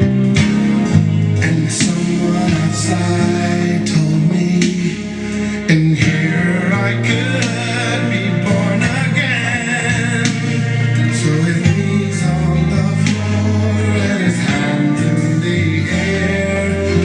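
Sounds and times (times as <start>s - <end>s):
instrumental backing with bass: 0.0s - 17.0s
man singing gospel song: 1.4s - 17.0s.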